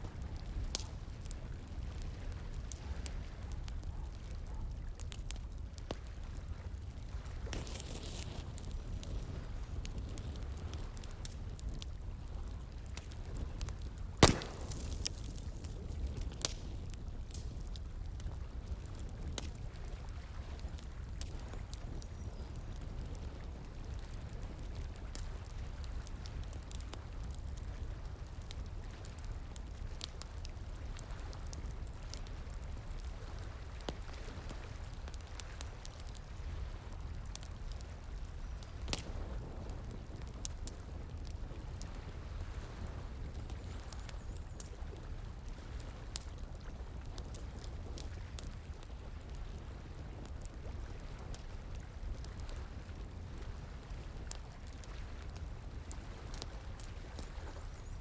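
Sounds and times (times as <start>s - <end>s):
bonfire crackling: 0.0s - 58.0s.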